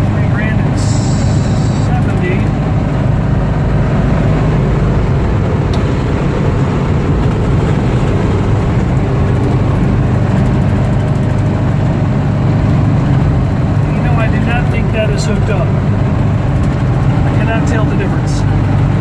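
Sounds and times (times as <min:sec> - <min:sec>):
car engine cruising drone: 0:00.0 - 0:19.0
wind and road noise: 0:00.0 - 0:19.0.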